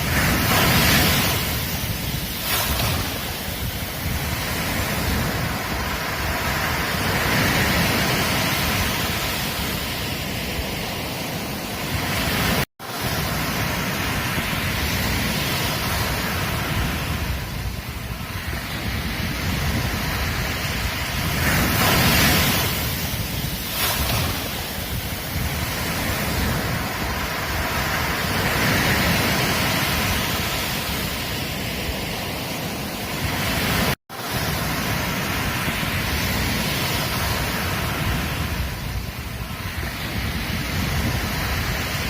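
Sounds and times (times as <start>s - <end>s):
ocean surf on beach: 0.0s - 42.0s.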